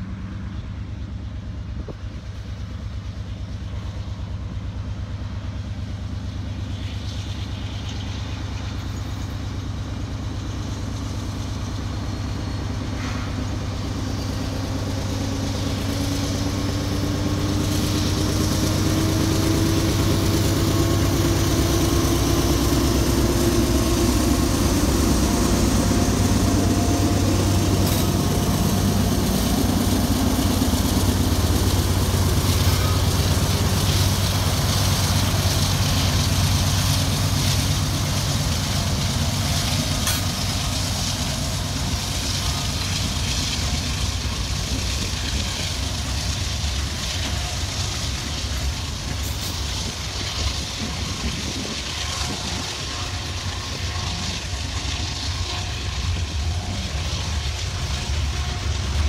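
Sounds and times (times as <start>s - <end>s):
diesel locomotive engines droning: 0.0s - 59.0s.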